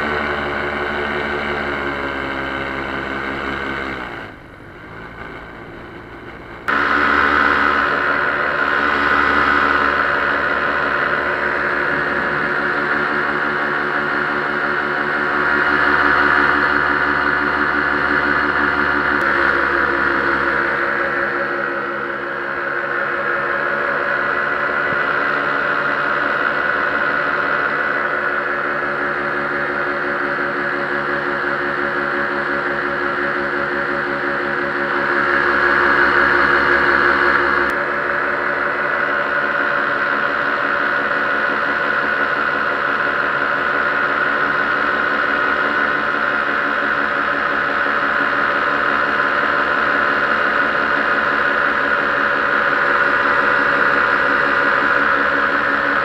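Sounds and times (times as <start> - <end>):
paramotor engine droning: 0.0 - 56.0.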